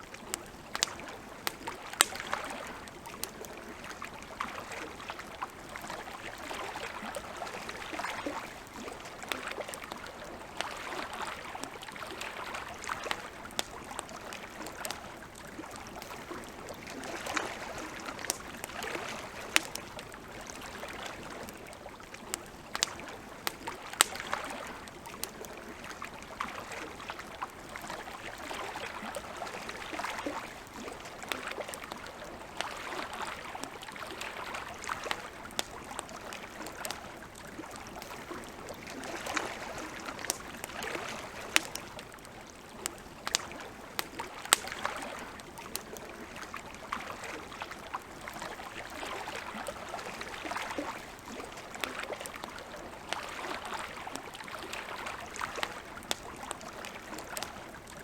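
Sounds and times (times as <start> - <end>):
campfire crackling and popping: 0.0 - 58.0
lake water lapping: 0.0 - 58.0.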